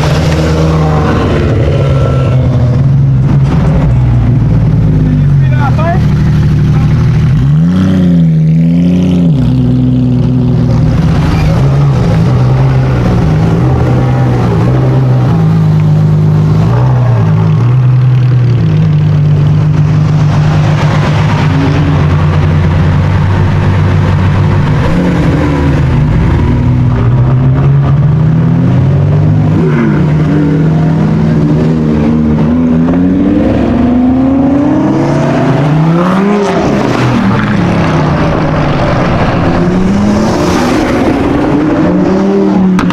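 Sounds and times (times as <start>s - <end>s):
car engine running loudly: 0.0s - 42.9s.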